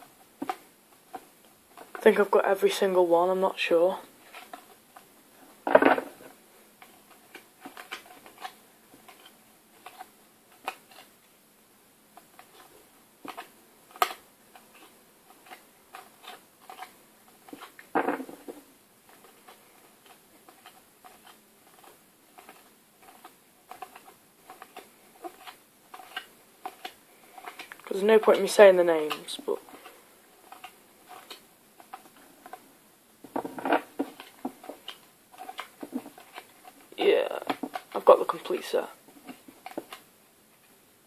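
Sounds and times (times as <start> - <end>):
rustle of handling cards: 0.0 - 11.3, 12.2 - 40.8.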